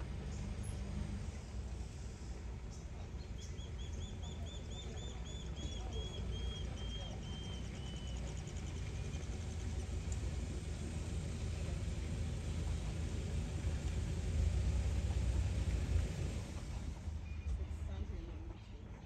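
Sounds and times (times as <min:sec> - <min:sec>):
vehicle engine idling: 0:00.0 - 0:18.8.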